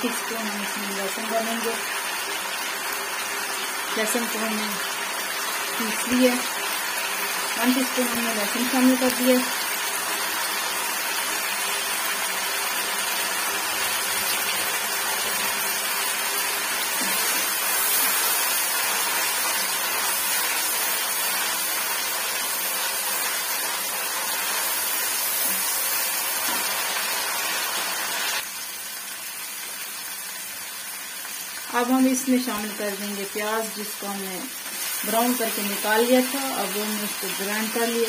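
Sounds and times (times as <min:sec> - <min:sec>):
tomato and garlic sizzling in oil: 0:00.0 - 0:38.0.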